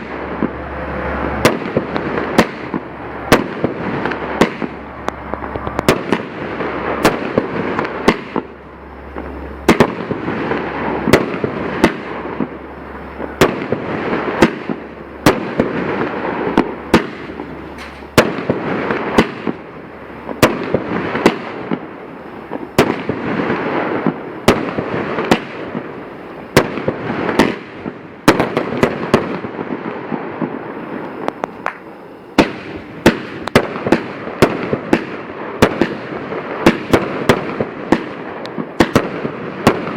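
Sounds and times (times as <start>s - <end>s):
continuous noisy hiss: 0.0s - 39.9s
fireworks bangs: 0.0s - 39.9s.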